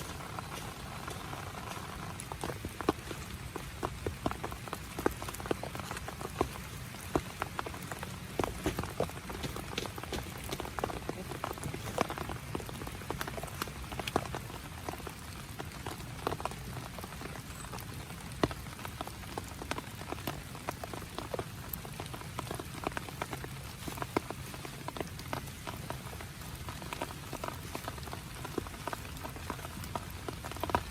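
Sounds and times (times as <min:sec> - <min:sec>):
rain drops tapping: 0:00.0 - 0:30.9.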